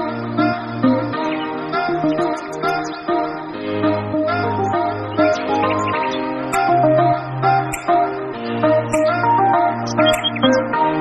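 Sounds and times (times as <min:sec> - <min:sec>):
steady held notes: 0:00.4 - 0:10.8
plucked string melody: 0:00.9 - 0:11.0.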